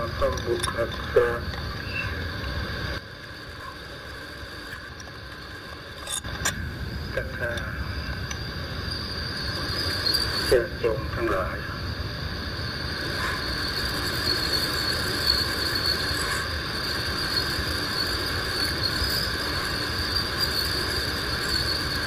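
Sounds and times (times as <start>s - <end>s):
even hiss: 0.0s - 22.0s
insects chirring: 0.0s - 22.0s
low drone: 0.0s - 22.0s.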